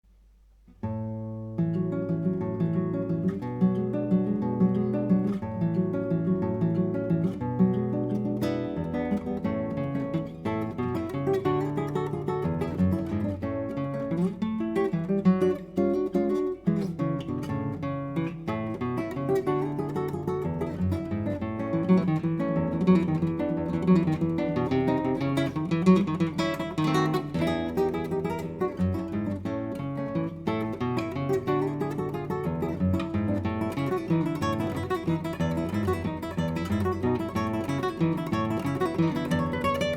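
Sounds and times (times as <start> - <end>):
solo acoustic guitar folk dance: 0.0 - 39.9.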